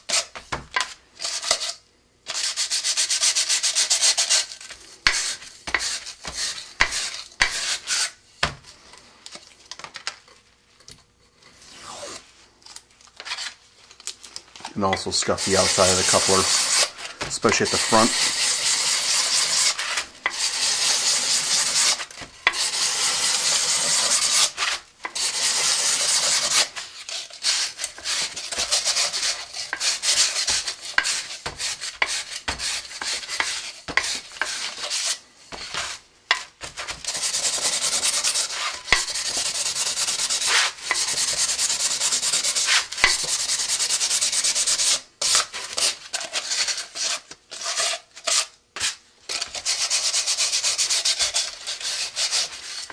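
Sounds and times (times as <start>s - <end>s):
sandpaper rasping on tube: 1.2s - 8.2s, 15.0s - 52.9s.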